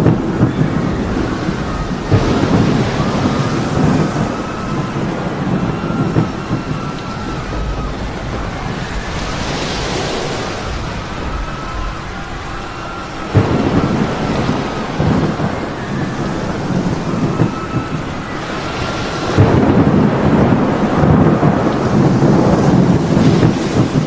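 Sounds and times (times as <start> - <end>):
heavy rain: 0.0 - 24.0
thunder cracking and rumbling: 0.0 - 24.0.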